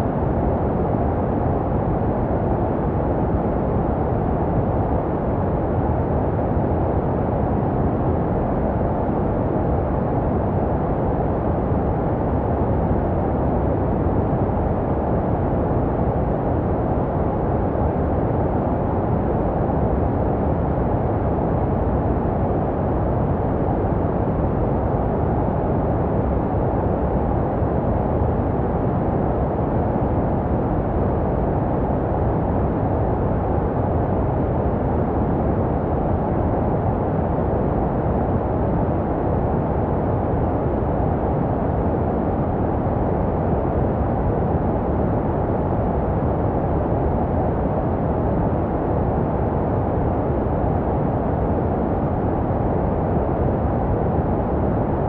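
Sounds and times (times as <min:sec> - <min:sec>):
deep rumbly white noise: 0:00.0 - 0:55.0.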